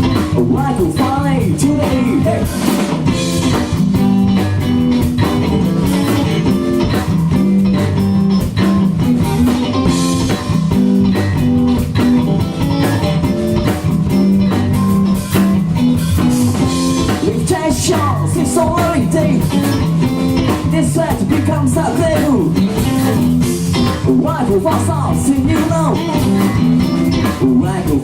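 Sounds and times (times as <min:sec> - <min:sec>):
bass guitar: 0:00.0 - 0:28.0
drum kit beat: 0:00.0 - 0:28.0
electric guitar: 0:00.0 - 0:28.0.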